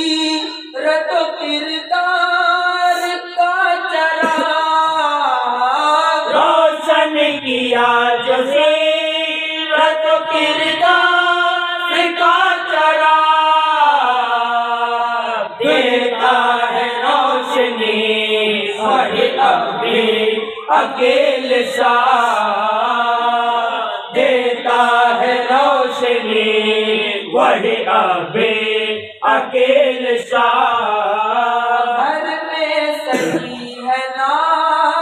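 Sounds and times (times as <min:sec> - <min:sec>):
person chanting: 0:00.0 - 0:35.0.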